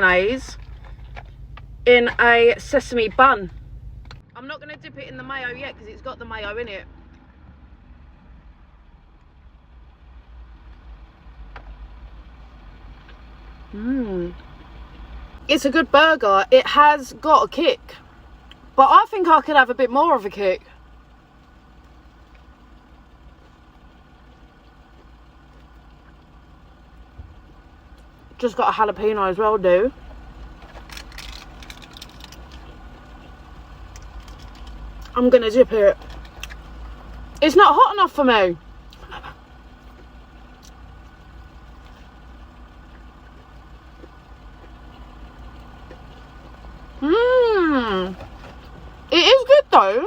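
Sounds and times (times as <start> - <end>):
faint vehicle engine idling: 0.0 - 50.0.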